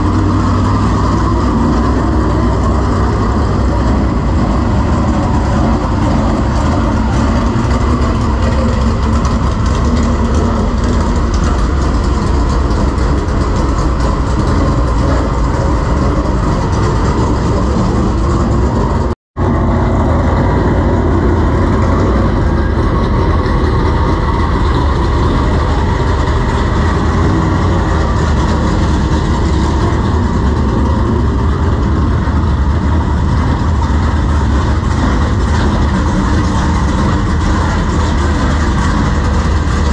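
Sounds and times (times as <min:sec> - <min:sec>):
race car engines running: 0:00.0 - 0:39.9.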